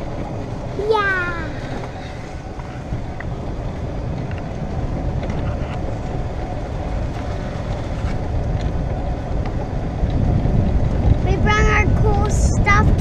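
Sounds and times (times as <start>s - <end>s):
golf cart motor rumbling: 0.0s - 13.0s.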